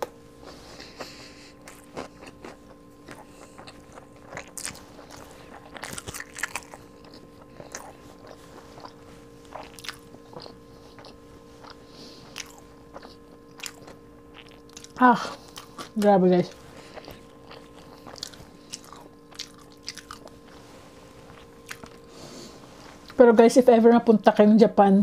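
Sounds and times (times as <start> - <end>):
faint steady hum: 0.0 - 25.0
chewing crunchy food: 0.4 - 23.2.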